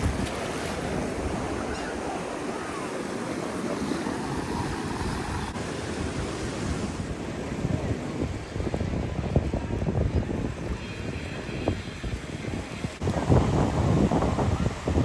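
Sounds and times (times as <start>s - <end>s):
surf washing on a sandy beach: 0.0s - 15.0s
wind rumbling on microphone: 0.0s - 15.0s.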